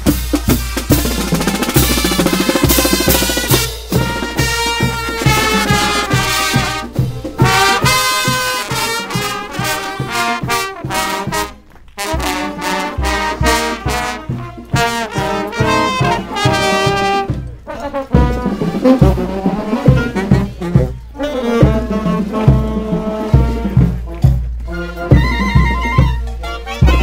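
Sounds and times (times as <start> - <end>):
brass band playing: 0.0 - 27.0
steady drum beat: 0.0 - 27.0.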